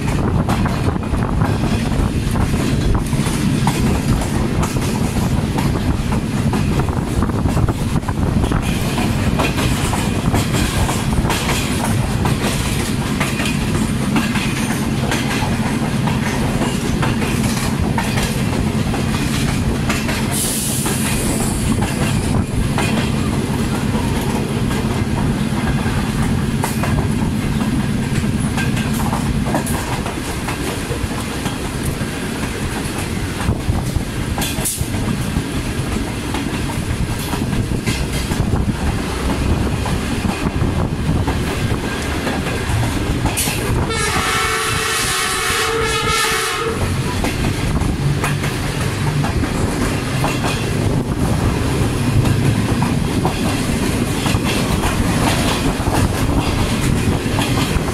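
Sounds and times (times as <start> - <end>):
wheels clicking over rail joints: 0.0 - 44.9, 46.6 - 57.9.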